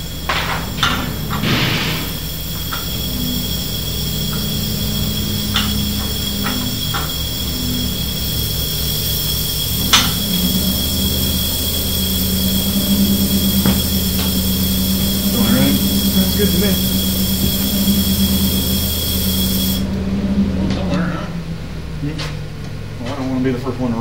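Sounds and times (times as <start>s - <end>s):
low mechanical drone: 0.0s - 24.0s
sharp metallic clicks: 0.1s - 19.8s.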